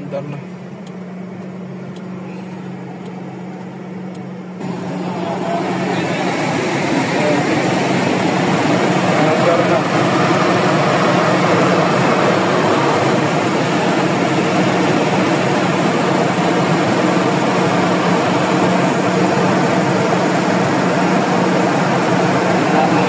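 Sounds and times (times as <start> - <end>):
petrol engine running steadily: 0.0 - 23.0.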